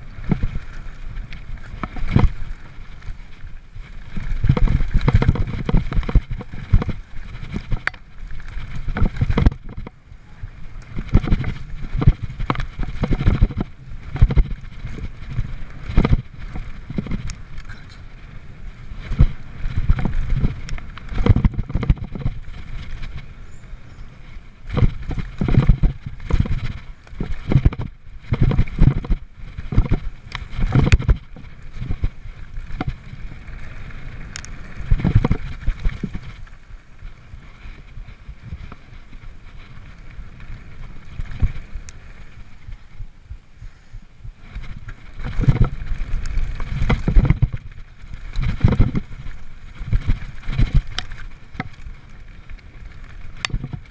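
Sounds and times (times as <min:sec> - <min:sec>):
bike knocking and rattling: 0:00.0 - 0:53.9
bike tyres rumbling on gravel: 0:00.0 - 0:53.9.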